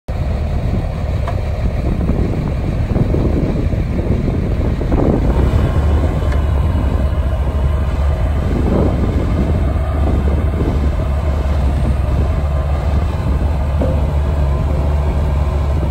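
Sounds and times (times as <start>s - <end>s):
diesel engine running steadily: 0.1s - 15.9s.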